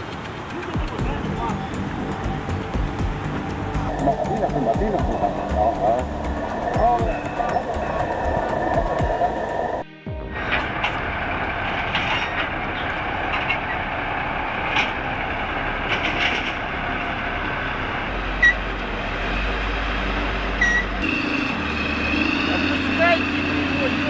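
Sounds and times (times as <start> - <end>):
bulldozer running with rattle: 0.0 - 9.8, 10.6 - 24.0
steady droning note: 1.0 - 24.0.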